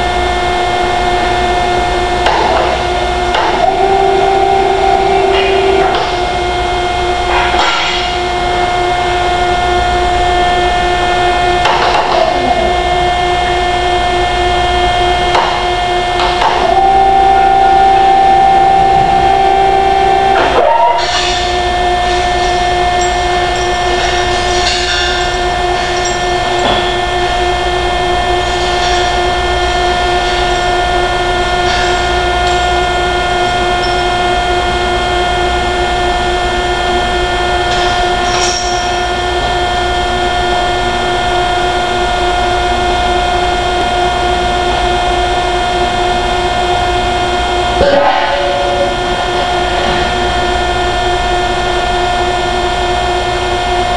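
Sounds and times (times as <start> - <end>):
industrial machine drone: 0.0 - 53.9.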